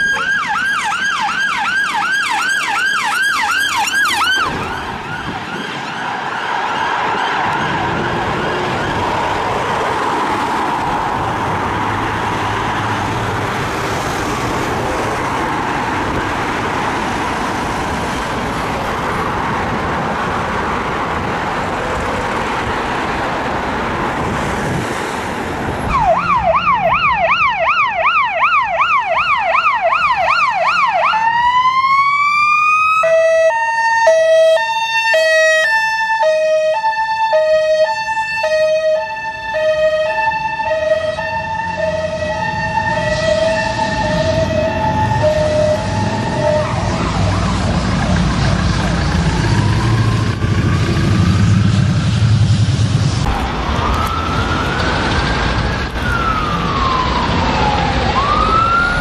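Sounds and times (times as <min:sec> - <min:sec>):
faint distant siren: 0:00.0 - 0:19.2, 0:25.8 - 0:52.5, 0:53.2 - 0:59.0
loud ambulance siren: 0:00.0 - 0:25.0, 0:25.7 - 0:52.5, 0:53.2 - 0:59.0
road traffic noise: 0:00.0 - 0:59.0.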